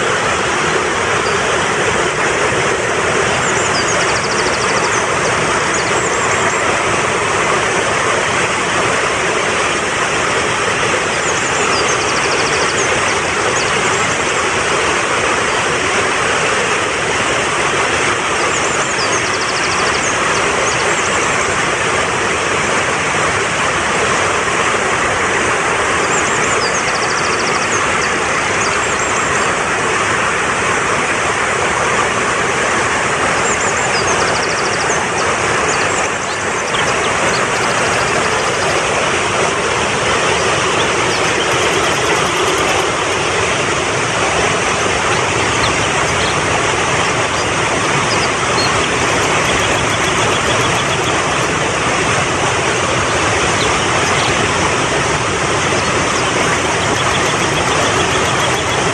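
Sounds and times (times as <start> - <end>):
stream rushing over rocks: 0.0 - 58.9
bird chirps and trills: 0.8 - 15.2, 18.0 - 21.8, 26.0 - 29.7, 33.2 - 58.9.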